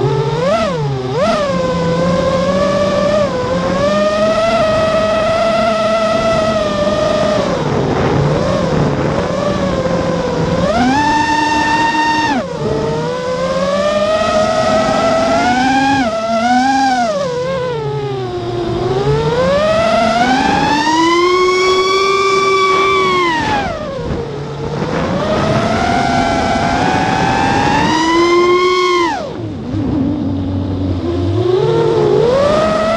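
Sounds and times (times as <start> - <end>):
quadcopter motors whining: 0.0 - 32.9.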